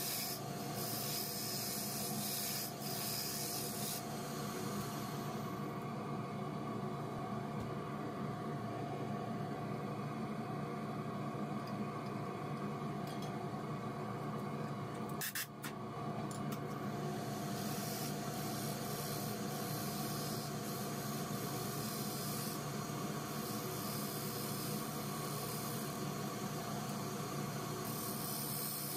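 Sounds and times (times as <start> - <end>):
workshop machinery humming: 0.0 - 28.9.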